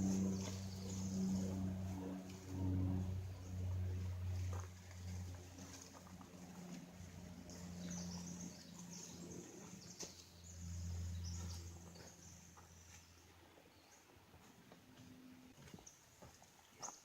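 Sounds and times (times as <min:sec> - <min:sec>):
low steady hum: 0:00.0 - 0:16.4.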